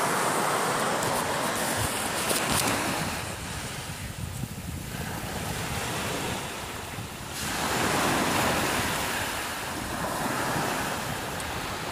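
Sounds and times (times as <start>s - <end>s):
waves breaking on beach: 0.0s - 11.9s
wind rumble on microphone: 0.7s - 11.9s.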